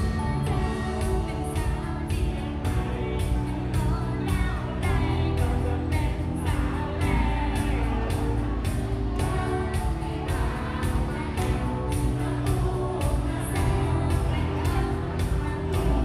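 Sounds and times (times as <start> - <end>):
pop song with heavy bass: 0.0 - 16.0.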